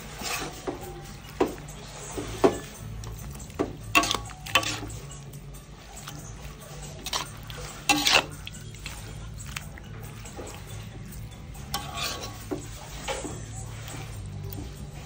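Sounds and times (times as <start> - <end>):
spatula scraping a wok: 0.0 - 15.0.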